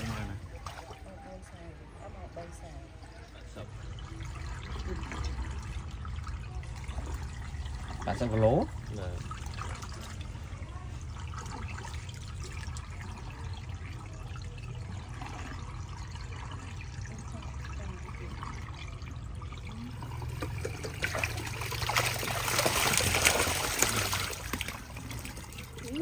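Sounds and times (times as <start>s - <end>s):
water pouring: 0.0s - 26.0s
water trickling: 0.0s - 26.0s.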